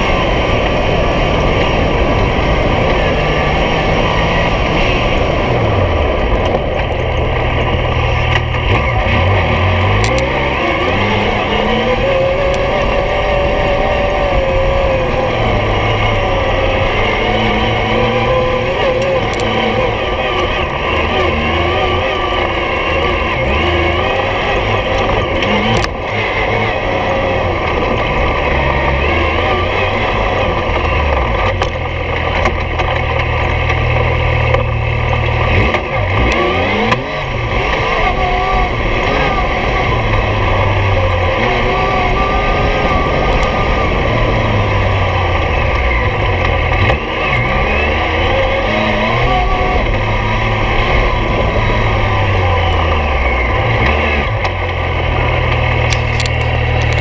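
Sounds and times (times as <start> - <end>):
vehicle engine under load: 0.0 - 57.0.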